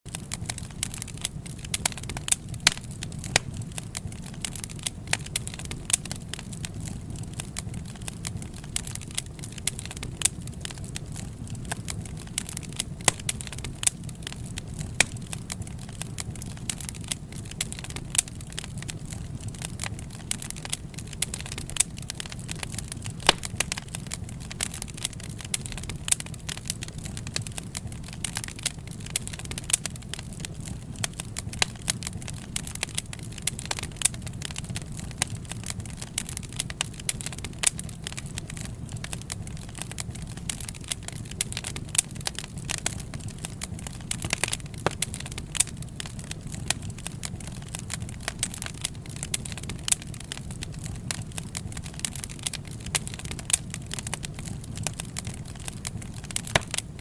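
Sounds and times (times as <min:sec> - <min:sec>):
low rumble of flames: 0:00.1 - 0:57.0
wood fire crackling: 0:00.1 - 0:57.0.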